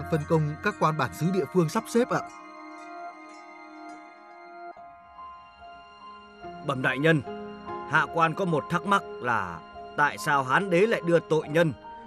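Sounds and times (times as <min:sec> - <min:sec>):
chime-like background music: 0:00.0 - 0:12.0.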